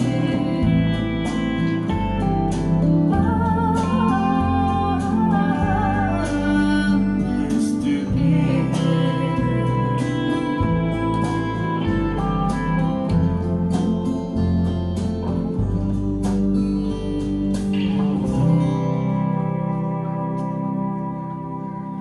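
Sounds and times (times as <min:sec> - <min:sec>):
guitar music through loudspeakers: 0:00.0 - 0:22.0.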